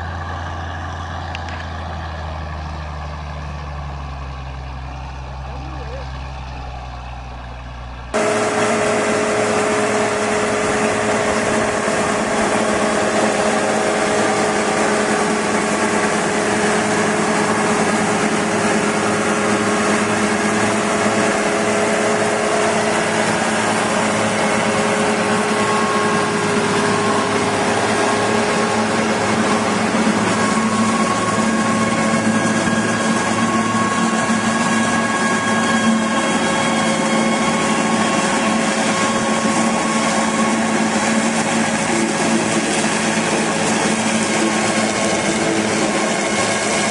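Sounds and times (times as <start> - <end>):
machine engine low rumble: 0.0 - 46.9
harsh machine running: 8.1 - 46.9.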